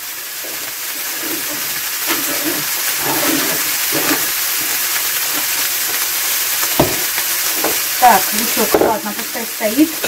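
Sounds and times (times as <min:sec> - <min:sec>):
mushrooms sizzling in a pan: 0:00.0 - 0:10.0.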